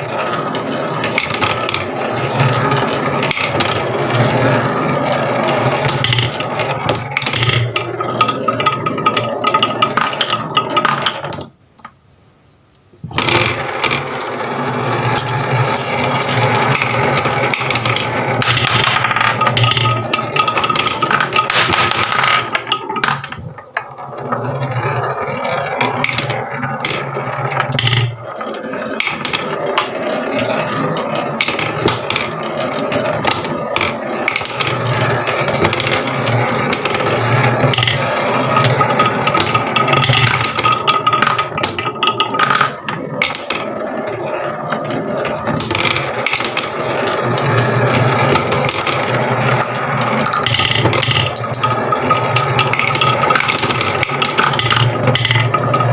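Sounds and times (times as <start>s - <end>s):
marbles rattling down wooden run: 0.0s - 11.5s, 13.2s - 55.9s.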